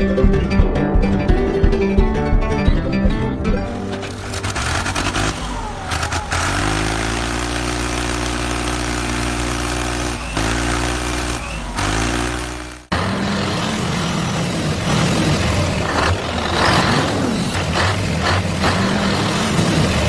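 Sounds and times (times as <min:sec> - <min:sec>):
motor humming: 0:03.7 - 0:20.0.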